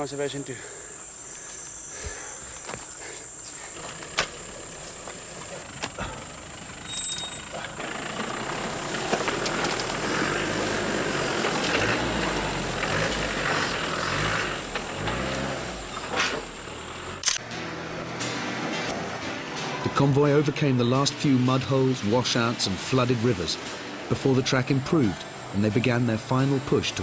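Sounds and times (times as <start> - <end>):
high insect whine: 0.0 - 17.4, 21.2 - 27.0
off-road vehicle engine running: 3.6 - 27.0.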